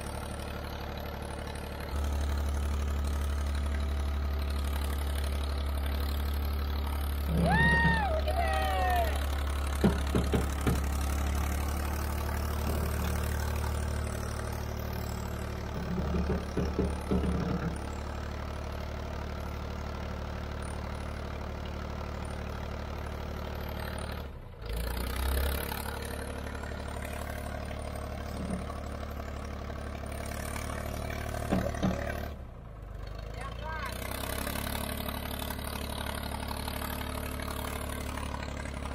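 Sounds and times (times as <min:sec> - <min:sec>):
diesel engine idling: 0:00.0 - 0:38.9
engine clattering: 0:00.0 - 0:38.9.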